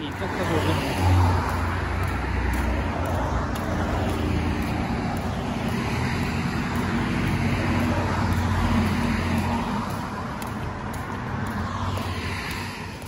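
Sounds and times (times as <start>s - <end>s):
stroller wheels rolling on concrete: 0.0s - 13.0s.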